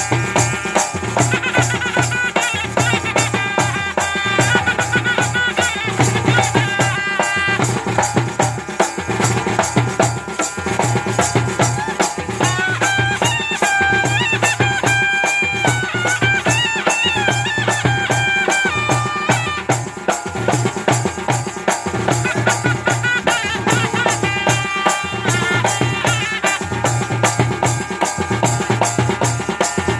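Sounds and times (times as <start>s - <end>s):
fast drumming: 0.0s - 29.9s
rattling percussion: 0.0s - 29.9s.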